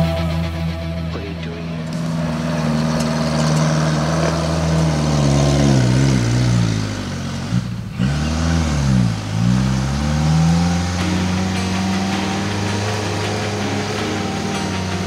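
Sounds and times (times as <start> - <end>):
jeep engine revving: 0.0 - 15.0.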